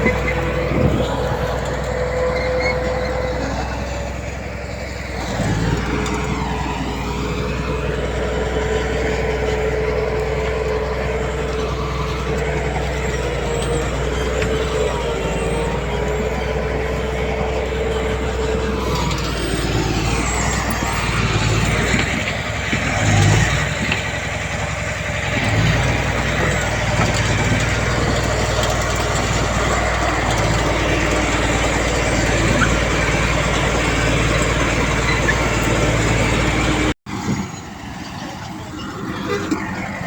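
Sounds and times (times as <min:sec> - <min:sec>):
heavy diesel machinery running: 0:00.0 - 0:40.0.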